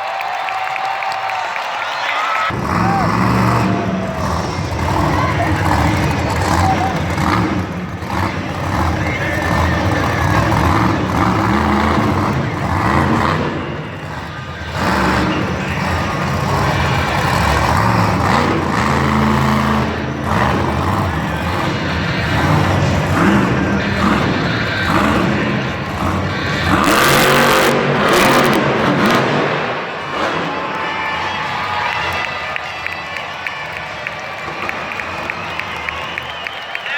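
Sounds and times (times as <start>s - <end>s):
truck engine revving: 2.4s - 36.9s.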